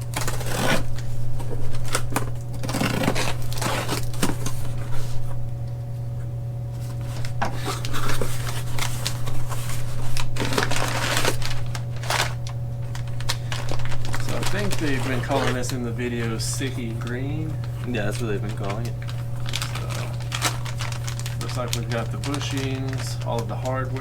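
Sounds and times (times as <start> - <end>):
packaging rustling: 0.0 - 24.0
steady low hum: 0.0 - 24.0.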